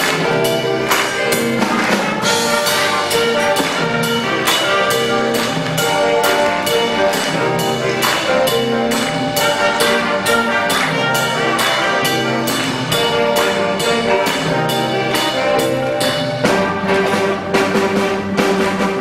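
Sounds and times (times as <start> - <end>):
concert band playing: 0.0 - 19.0
percussion beat: 0.0 - 19.0.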